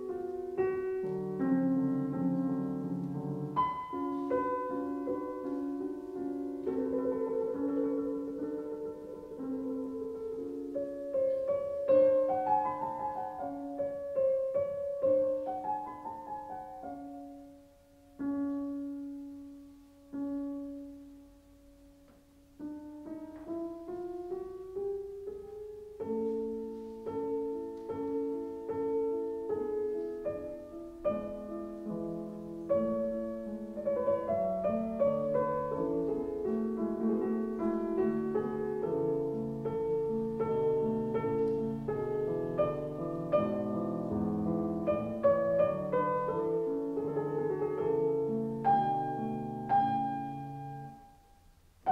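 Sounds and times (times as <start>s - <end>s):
slow piano music: 0.0s - 51.9s.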